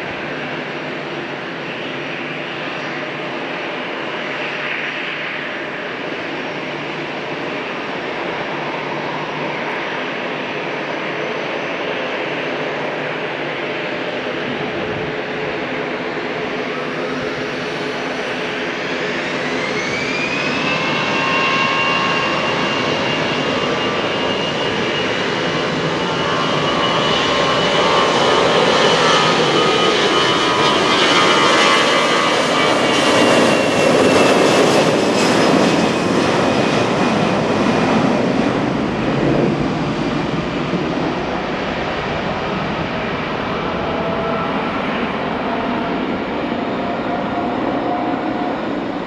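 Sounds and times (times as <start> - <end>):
jet engines spooling up: 1.7 - 49.0.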